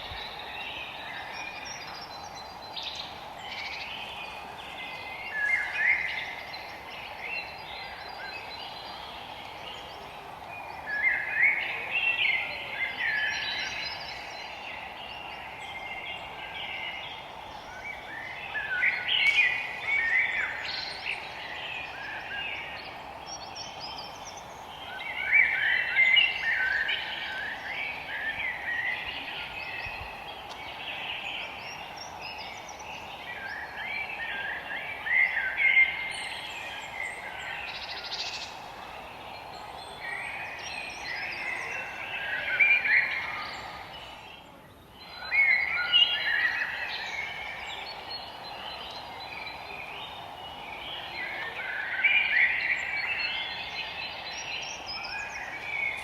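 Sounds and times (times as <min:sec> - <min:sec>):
songbirds chirping and warbling: 0:00.0 - 0:56.0
steady background hiss: 0:00.0 - 0:56.0.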